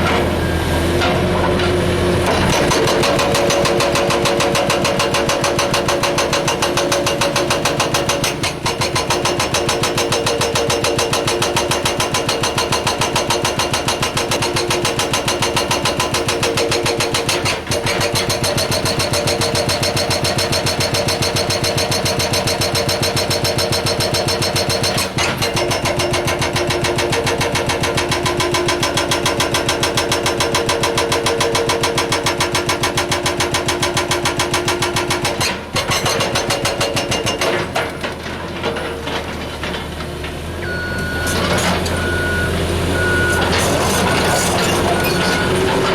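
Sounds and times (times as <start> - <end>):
excavator engine running: 0.0 - 45.9
hydraulic breaker hammering rock: 1.0 - 40.1, 41.0 - 45.9.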